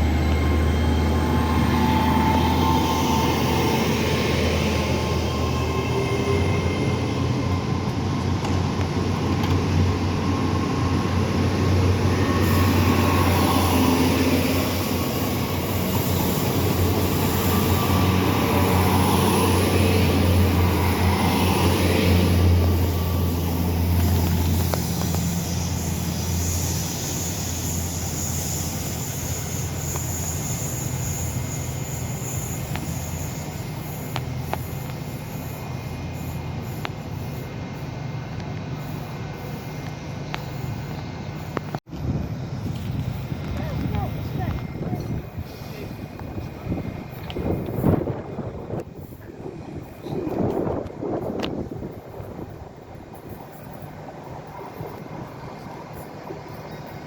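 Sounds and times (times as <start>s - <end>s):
diesel train engine hum: 0.0s - 57.0s.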